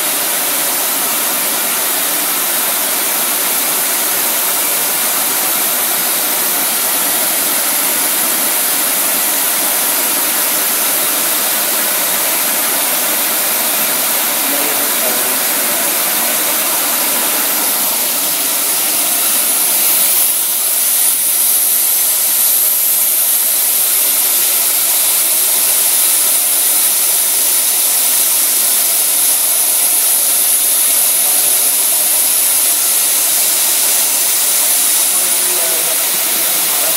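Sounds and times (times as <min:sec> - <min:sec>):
milling spindle whining: 0:00.0 - 0:36.9.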